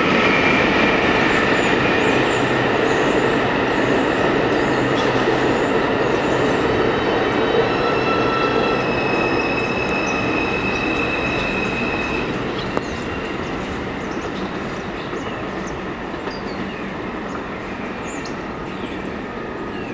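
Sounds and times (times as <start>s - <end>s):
subway train running on track: 0.0s - 19.9s.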